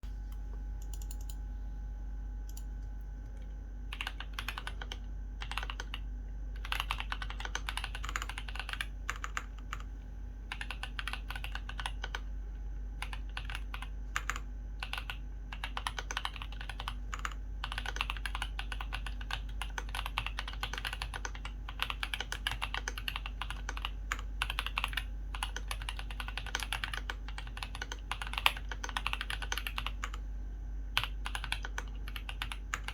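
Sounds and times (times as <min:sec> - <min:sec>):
mechanical keyboard typing: 0:00.8 - 0:01.4, 0:03.9 - 0:09.9, 0:10.5 - 0:12.3, 0:13.0 - 0:30.2, 0:30.9 - 0:32.9.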